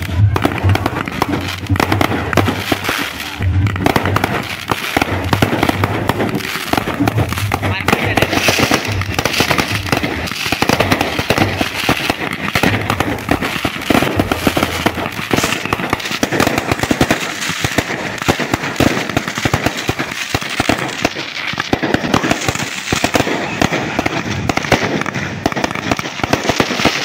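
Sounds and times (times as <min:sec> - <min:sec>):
fireworks popping and crackling: 0:00.0 - 0:27.0
rockets launching: 0:00.0 - 0:27.0.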